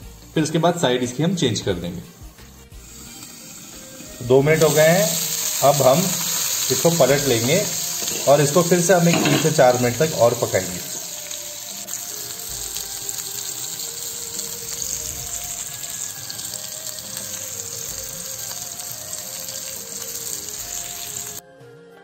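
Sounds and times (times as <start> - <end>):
fish sizzling in a pan: 0.0 - 0.6, 1.9 - 21.4
soft background music: 0.0 - 22.0.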